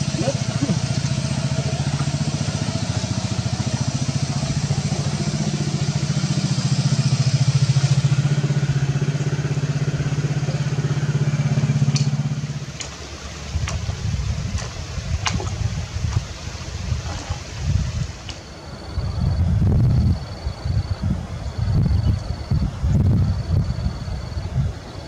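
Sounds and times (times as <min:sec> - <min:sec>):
kite hummer buzzing drone: 0:00.0 - 0:25.0.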